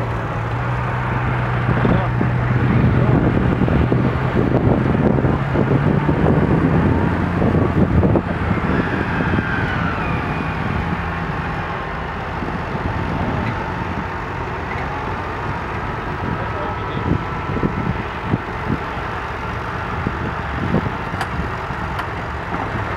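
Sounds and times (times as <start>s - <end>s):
faint whines gliding in pitch: 0.0s - 22.9s
tractor diesel engine under load: 0.0s - 22.9s.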